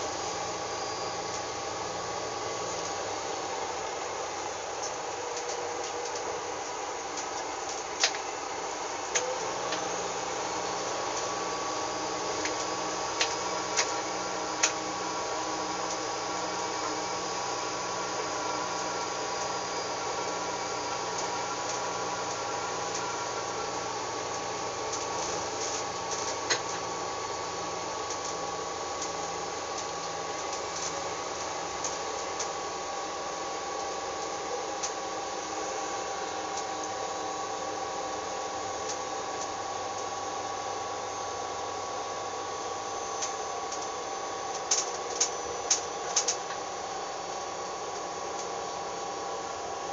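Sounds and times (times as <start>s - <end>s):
railcar running hum: 0.0s - 40.7s.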